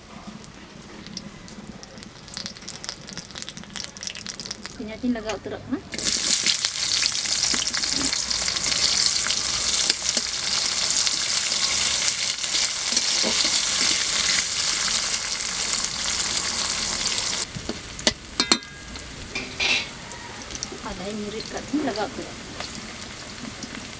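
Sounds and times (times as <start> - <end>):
onions sizzling in hot oil: 0.4 - 4.8, 5.9 - 23.9.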